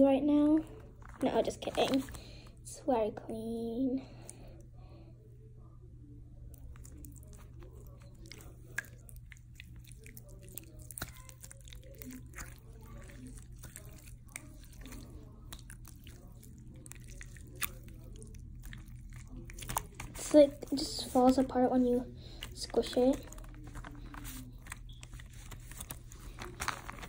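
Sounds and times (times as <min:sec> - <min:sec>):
slime squelching: 0:00.3 - 0:02.6, 0:06.4 - 0:27.0.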